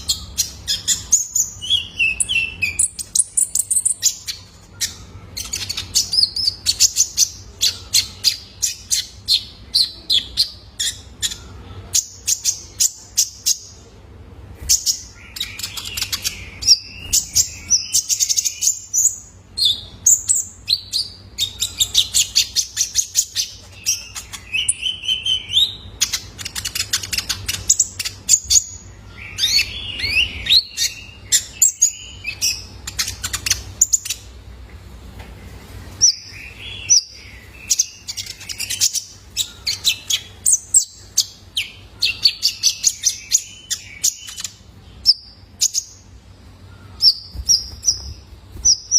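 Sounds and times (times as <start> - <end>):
sunbird singing: 0.0 - 14.0, 14.6 - 34.3, 36.0 - 48.9
faint low hum: 0.0 - 48.9.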